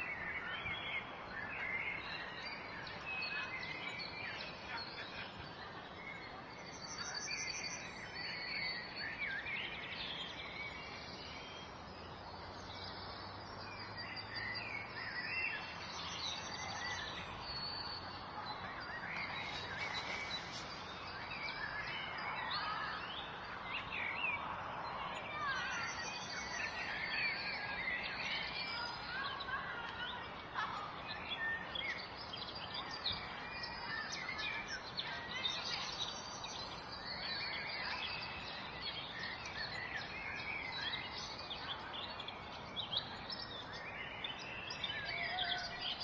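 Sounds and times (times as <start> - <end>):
birds chirping and singing: 0.0 - 46.0.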